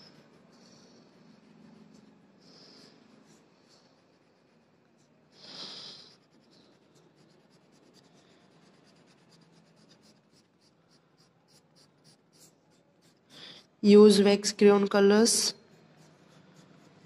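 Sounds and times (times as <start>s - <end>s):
crayon scratching on paper: 0.0s - 14.2s, 15.2s - 17.0s.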